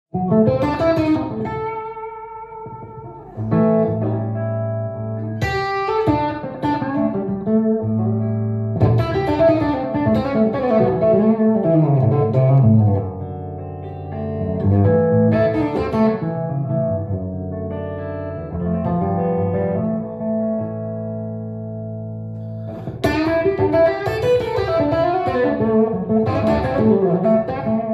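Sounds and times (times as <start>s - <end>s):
blues electric guitar lead: 0.1s - 27.9s.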